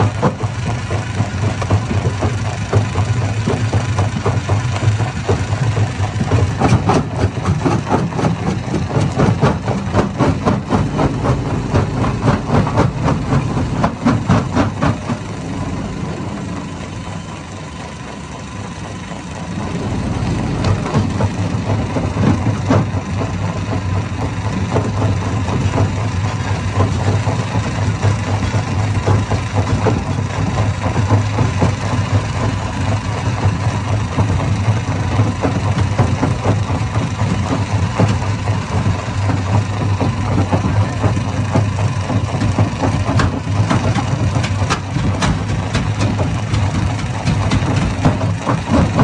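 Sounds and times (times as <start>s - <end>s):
machine humming: 0.0s - 49.0s.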